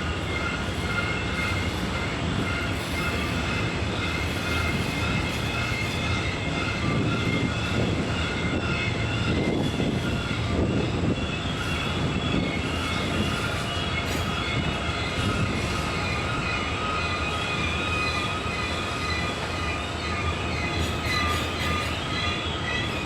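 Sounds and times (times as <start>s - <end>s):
train wheels rumbling on rail: 0.0s - 23.0s
wheel flange squeal: 0.2s - 23.0s.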